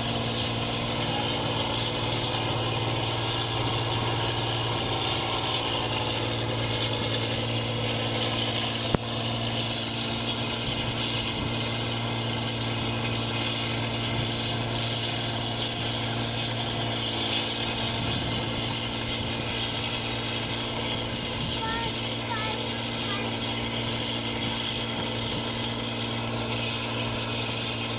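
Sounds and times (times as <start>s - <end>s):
combine harvester engine running: 0.0s - 27.9s.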